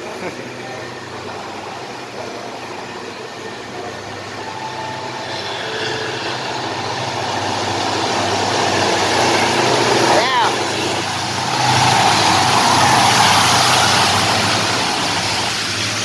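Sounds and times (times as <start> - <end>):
diesel locomotive engine: 0.0 - 16.0.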